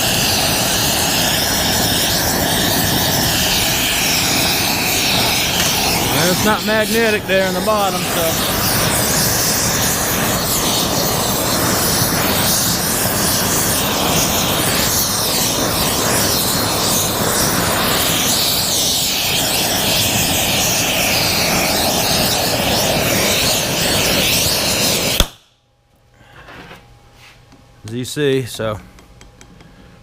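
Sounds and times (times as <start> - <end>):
torch flame burning: 0.0 - 25.5
torch shutoff click: 0.1 - 25.5.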